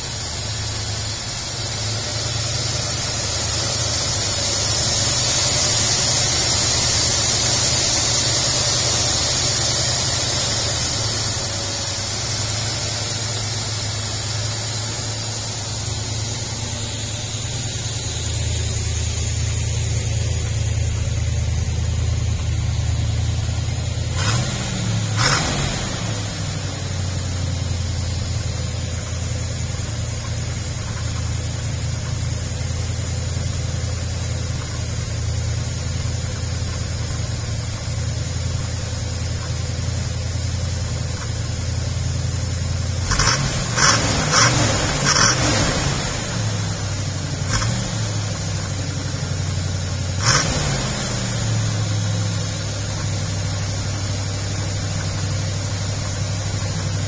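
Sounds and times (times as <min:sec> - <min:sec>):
car engine idling: 0:00.0 - 0:57.0
engine cracks: 0:00.2 - 0:57.0.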